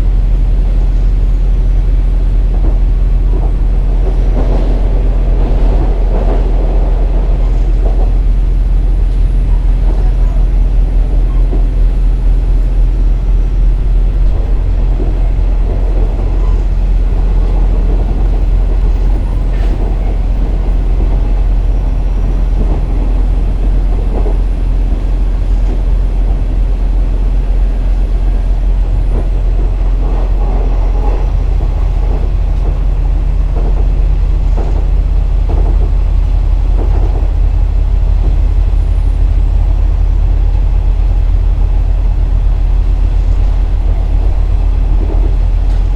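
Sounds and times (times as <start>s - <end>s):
diesel engine drone: 0.0s - 45.9s
rail rumble: 0.0s - 45.9s.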